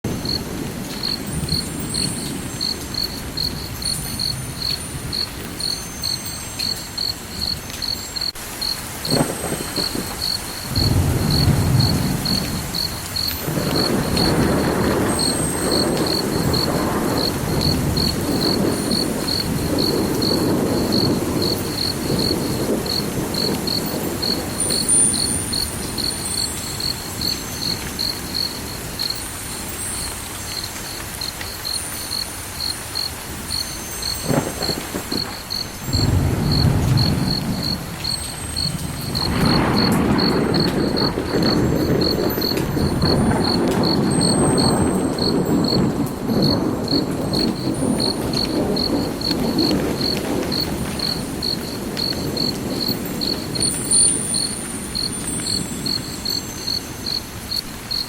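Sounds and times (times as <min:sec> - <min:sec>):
cricket chirping: 0:00.1 - 0:58.0.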